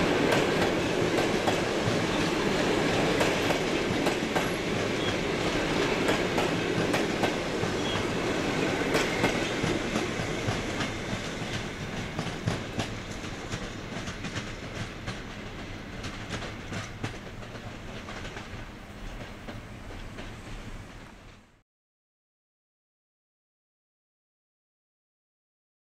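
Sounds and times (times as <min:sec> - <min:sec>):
train wheels clicking over rail joints: 0:00.0 - 0:21.6.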